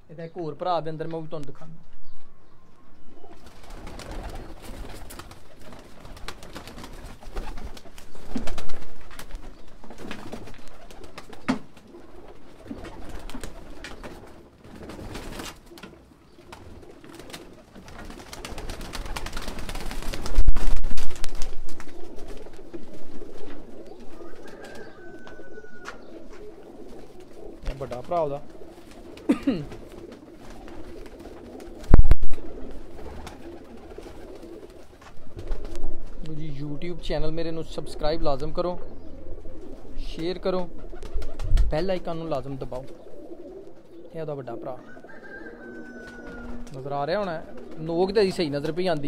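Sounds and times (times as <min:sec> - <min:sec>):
pigeons cooing: 0:01.8 - 0:20.3, 0:21.5 - 0:49.0.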